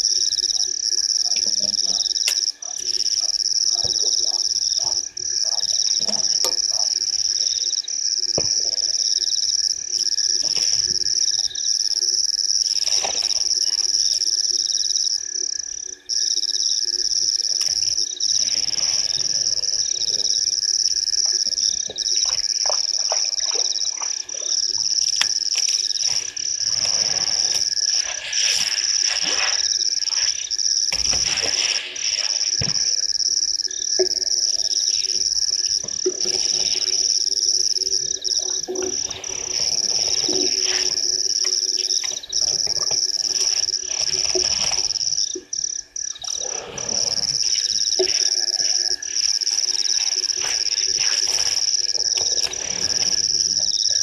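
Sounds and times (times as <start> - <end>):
frogs croaking: 0.0 - 54.0
high-pitched insect chirring: 0.0 - 54.0.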